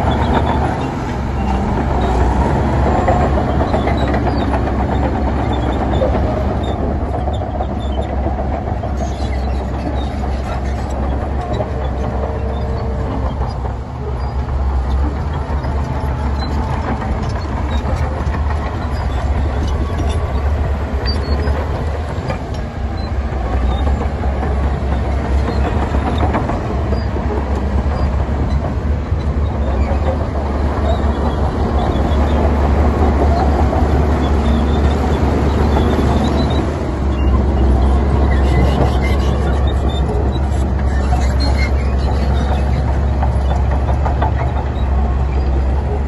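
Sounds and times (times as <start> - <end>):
diesel engine rumble: 0.0 - 46.0.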